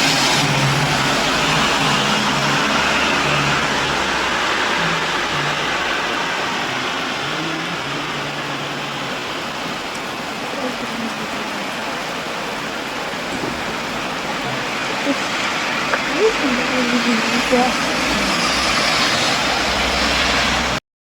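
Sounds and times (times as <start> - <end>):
car tyres hissing on wet road: 0.0 - 20.8
steady rain: 0.0 - 20.8.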